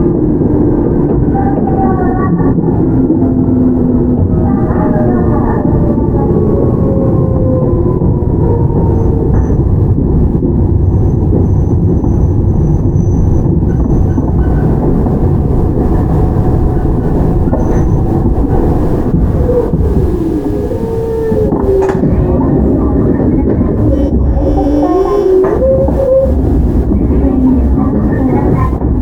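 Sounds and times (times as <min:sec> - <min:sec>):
electric train wheels rumbling: 0:00.0 - 0:29.0.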